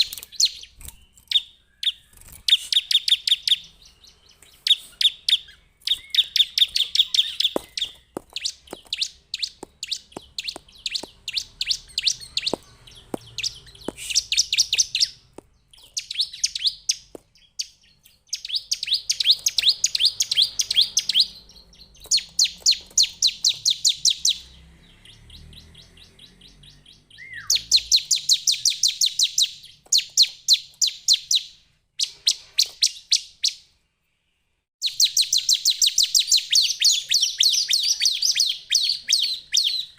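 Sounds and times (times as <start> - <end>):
bird chirping rapidly: 0.0 - 33.8, 34.8 - 39.9.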